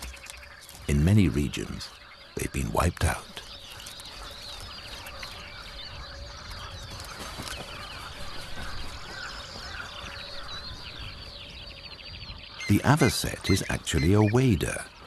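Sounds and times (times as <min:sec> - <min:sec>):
wild birds calling: 0:00.0 - 0:15.0.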